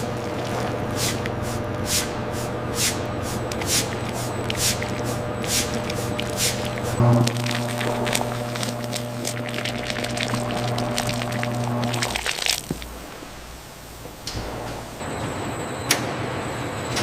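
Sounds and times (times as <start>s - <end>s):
machinery low hum: 0.0s - 17.0s.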